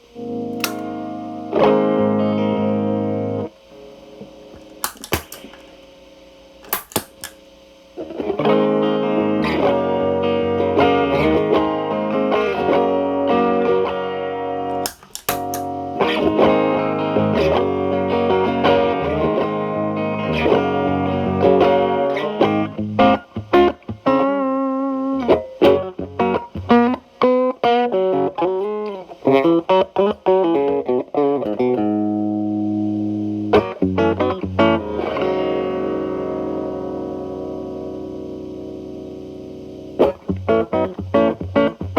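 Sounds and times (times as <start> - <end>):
distorted electric guitar: 0.0 - 41.9.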